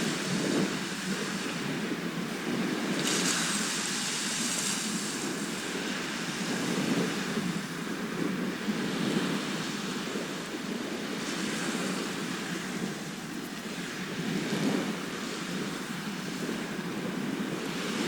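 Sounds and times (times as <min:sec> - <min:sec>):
sea waves washing onto shore: 0:00.0 - 0:18.0.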